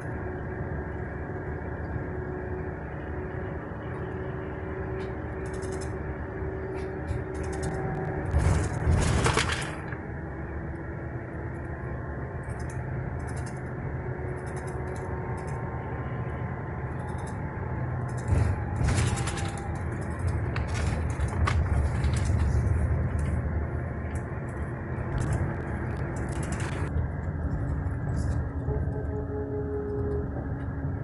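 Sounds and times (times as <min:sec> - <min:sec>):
engine and road noise rumble: 0:00.0 - 0:31.0.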